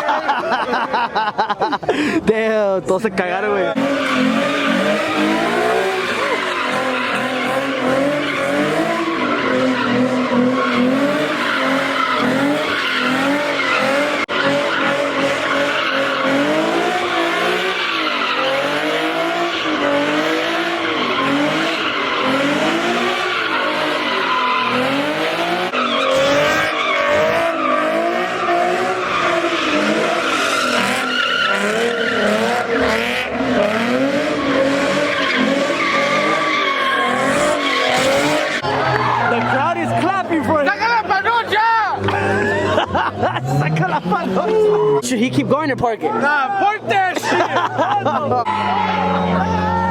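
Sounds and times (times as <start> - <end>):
car engine revving: 3.3 - 49.8
tyres squealing: 3.6 - 49.9.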